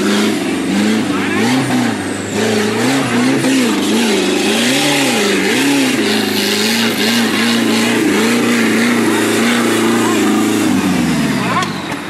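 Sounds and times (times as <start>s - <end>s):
engine revving up and down: 0.0s - 12.0s.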